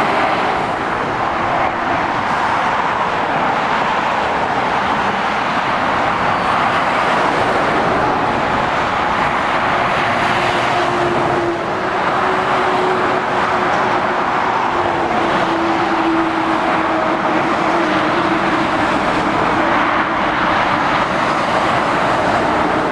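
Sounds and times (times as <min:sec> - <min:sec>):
motorway traffic passing: 0:00.0 - 0:22.9.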